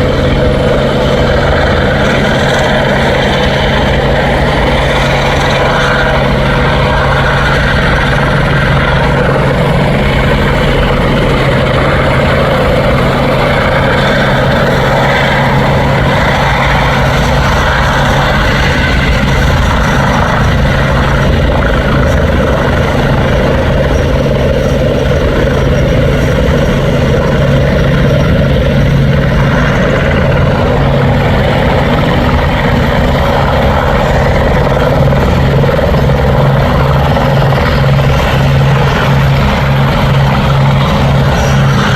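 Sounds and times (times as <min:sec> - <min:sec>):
helicopter drone: 0:00.0 - 0:41.9.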